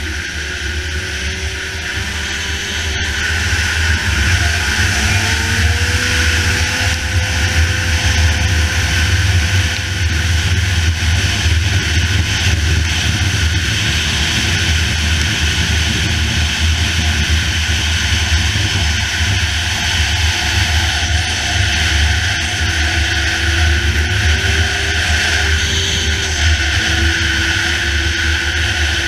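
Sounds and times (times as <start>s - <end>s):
snowmobile engine running: 0.0s - 29.0s
wind on microphone: 0.0s - 29.0s.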